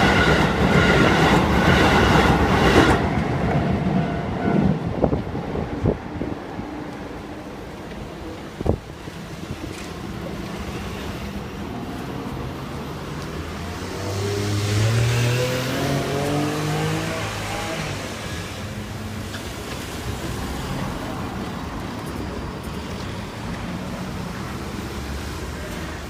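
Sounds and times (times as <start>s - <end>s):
street noise: 0.0s - 26.0s.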